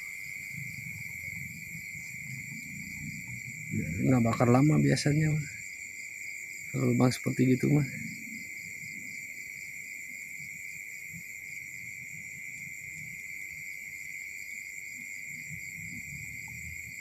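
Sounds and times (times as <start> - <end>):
crickets trilling: 0.0 - 17.0
pulsing insect chirps: 0.0 - 17.0.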